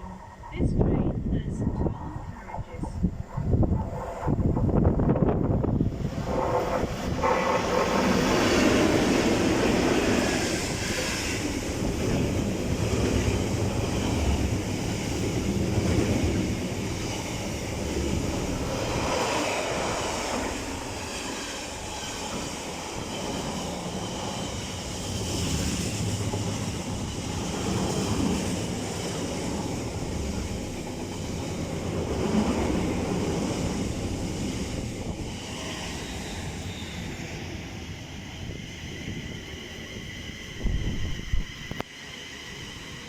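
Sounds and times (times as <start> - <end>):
train wheel and rail noise: 0.0 - 43.0.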